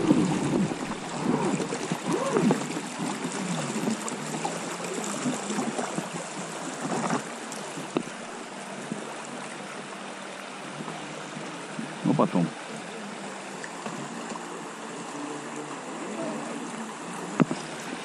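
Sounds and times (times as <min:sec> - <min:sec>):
river rushing and gurgling: 0:00.0 - 0:18.0.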